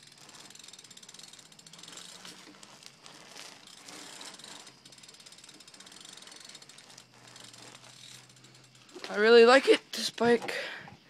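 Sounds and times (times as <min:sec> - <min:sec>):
bike freewheel hub ticking: 0:00.0 - 0:11.0.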